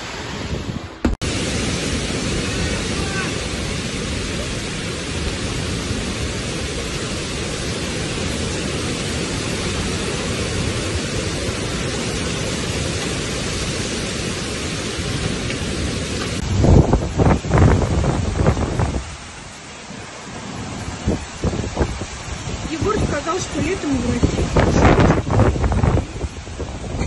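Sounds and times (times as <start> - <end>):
heavy rain: 0.0 - 27.0
strong wind: 0.0 - 27.0.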